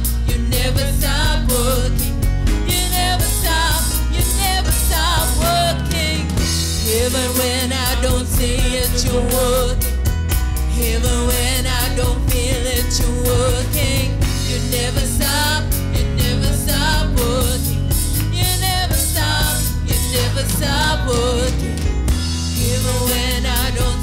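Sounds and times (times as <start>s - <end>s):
woman singing: 0.0s - 10.0s, 10.7s - 21.8s, 22.6s - 24.0s
bass guitar: 0.0s - 24.0s
drum kit: 0.0s - 24.0s
keyboards: 0.0s - 24.0s.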